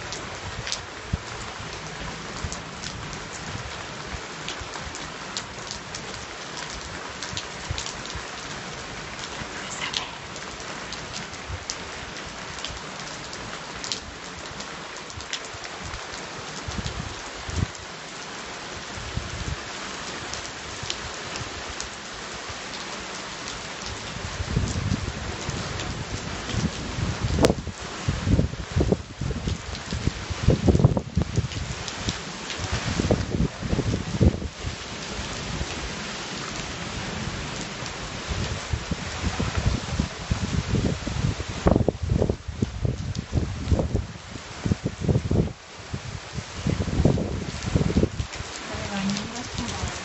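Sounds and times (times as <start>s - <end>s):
raindrops ticking on surface: 0.0s - 45.6s, 46.6s - 50.0s
steady rain: 0.0s - 50.0s.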